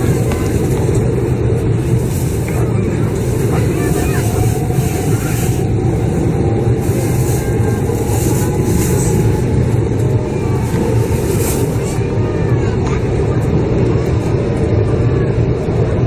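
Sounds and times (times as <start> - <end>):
train interior running rumble: 0.0 - 16.0.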